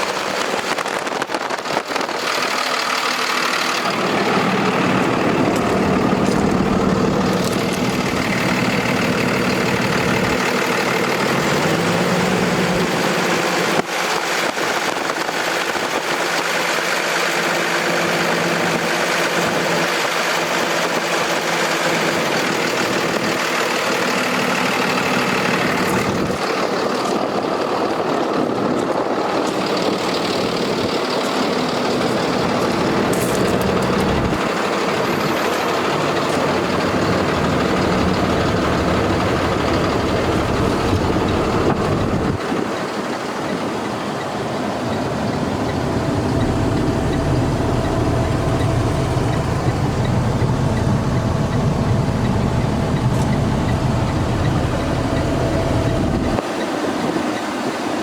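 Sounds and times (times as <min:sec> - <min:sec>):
diesel truck engine idling: 0:00.0 - 0:57.8.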